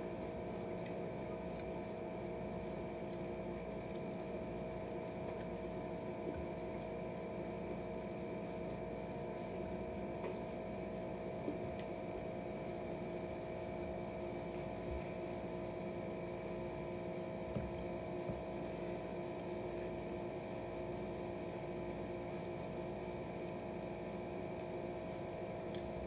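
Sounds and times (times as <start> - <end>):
steady multi-pitch hum: 0.0 - 26.0.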